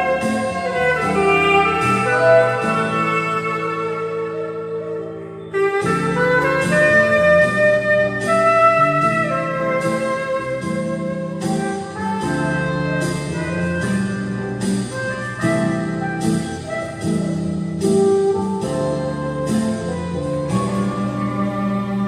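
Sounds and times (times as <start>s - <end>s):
clarinet playing hymn melody: 0.0s - 22.0s
low accompaniment chords: 0.0s - 22.0s.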